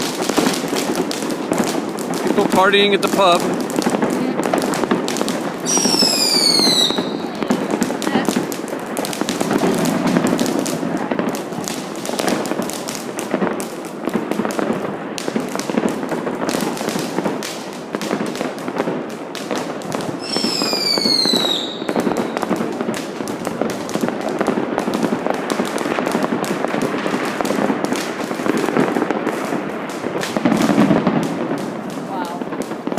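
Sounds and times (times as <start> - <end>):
fireworks bangs and crackles: 0.0 - 32.9
whistling firework: 0.0 - 32.9.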